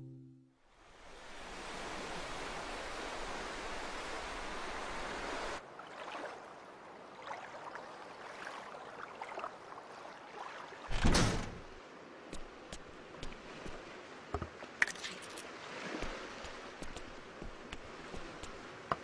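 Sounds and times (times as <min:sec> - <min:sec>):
rush of sea and wind: 0:00.8 - 0:19.0.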